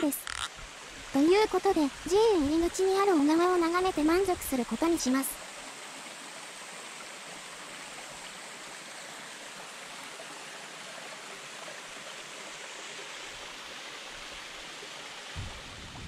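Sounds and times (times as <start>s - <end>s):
brook running over stones: 0.0s - 16.0s.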